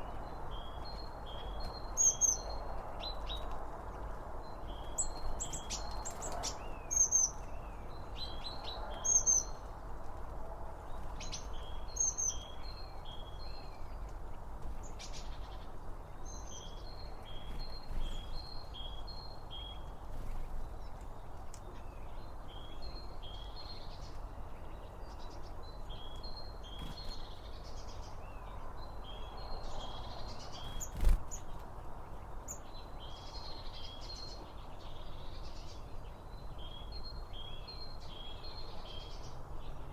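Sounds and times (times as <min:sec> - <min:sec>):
low background hiss: 0:00.0 - 0:39.9
small birds chirping: 0:00.0 - 0:39.9.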